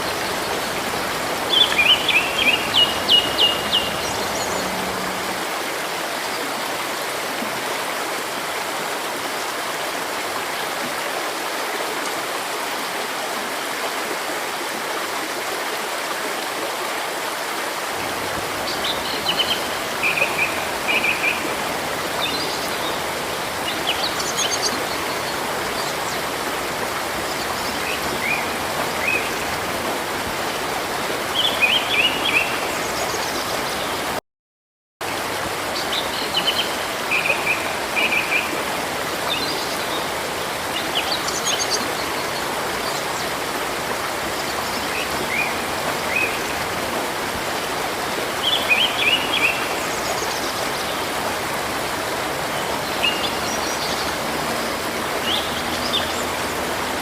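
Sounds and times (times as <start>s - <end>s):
river rushing: 0.0s - 34.2s, 35.0s - 57.0s.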